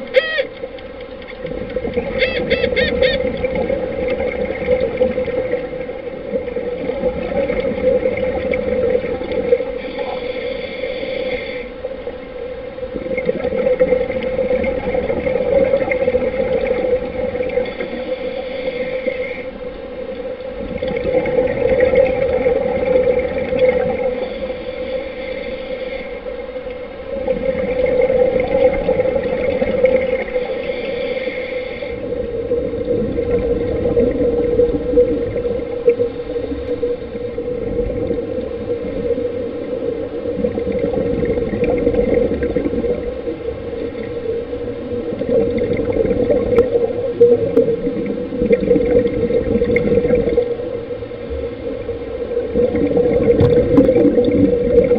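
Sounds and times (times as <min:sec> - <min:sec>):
underwater hum: 0:00.0 - 0:54.9
bubbles gurgling underwater: 0:01.4 - 0:10.1, 0:12.8 - 0:18.0, 0:20.1 - 0:24.2, 0:27.1 - 0:30.5, 0:32.0 - 0:54.9.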